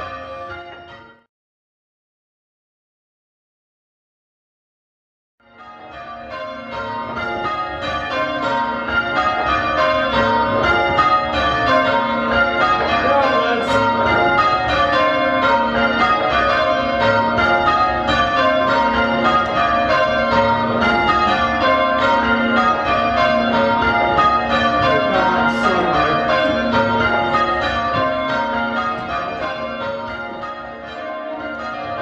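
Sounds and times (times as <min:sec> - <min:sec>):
church bells change-ringing: 0:00.0 - 0:01.3, 0:05.4 - 0:32.0.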